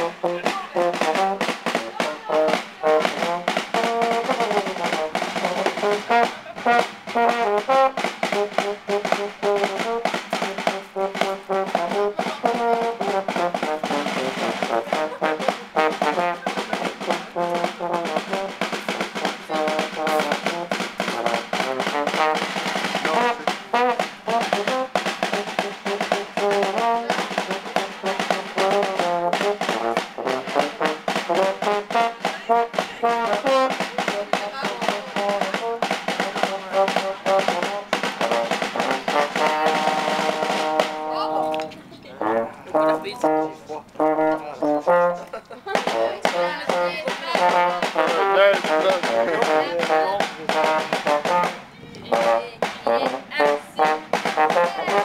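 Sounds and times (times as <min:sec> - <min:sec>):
snare drum beating: 0:00.0 - 0:41.7, 0:44.0 - 0:55.0
euphonium melody: 0:00.0 - 0:55.0.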